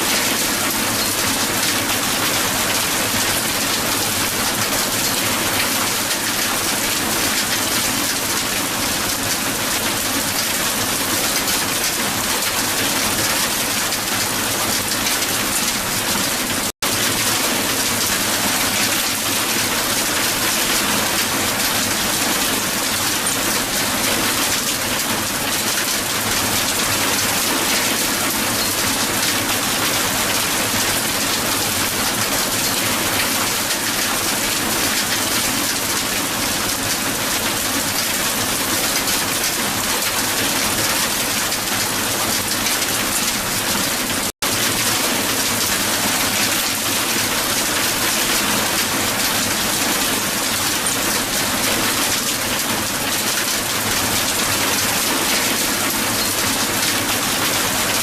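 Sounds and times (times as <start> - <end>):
hail falling on hard surface: 0.1 - 58.0.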